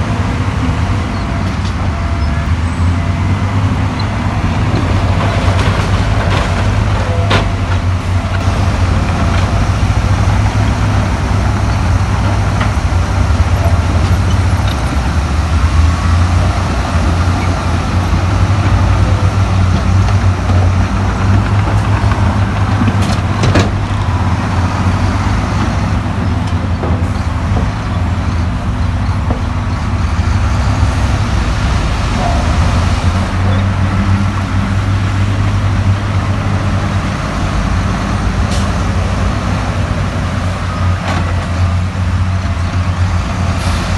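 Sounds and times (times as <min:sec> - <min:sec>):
heavy diesel machinery rumbling: 0:00.0 - 0:43.9.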